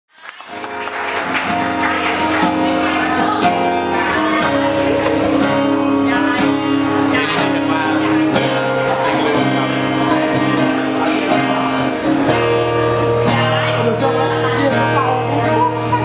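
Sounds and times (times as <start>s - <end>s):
guitar music: 0.4s - 16.0s.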